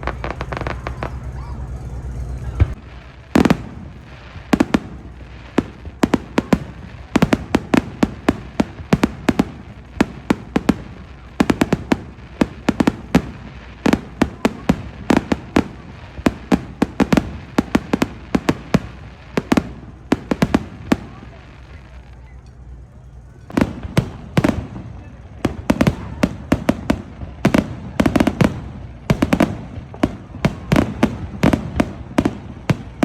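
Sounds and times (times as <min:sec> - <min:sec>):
background rumble: 0:00.0 - 0:33.0
fireworks bangs: 0:00.0 - 0:33.0.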